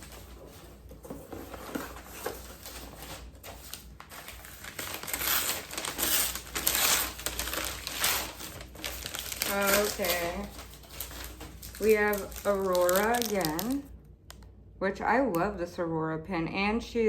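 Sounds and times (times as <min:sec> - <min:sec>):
packaging crinkling: 0:00.0 - 0:13.9.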